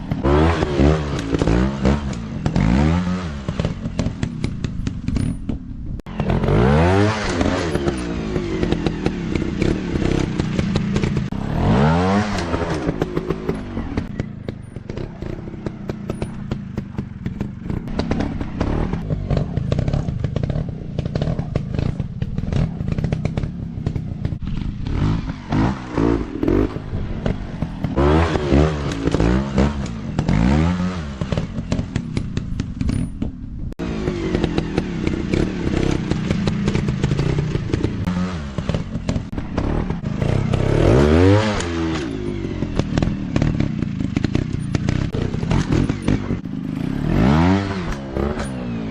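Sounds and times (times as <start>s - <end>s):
dirt bike engine revving: 0.0s - 5.4s, 6.0s - 48.9s.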